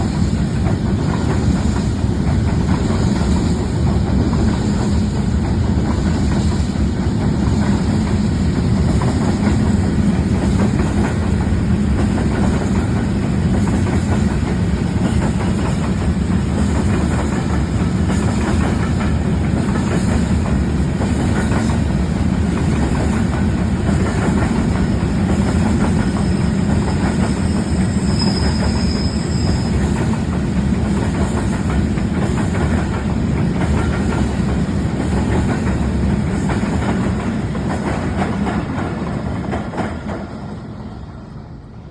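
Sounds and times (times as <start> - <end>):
freight train rumbling on rails: 0.0 - 41.9.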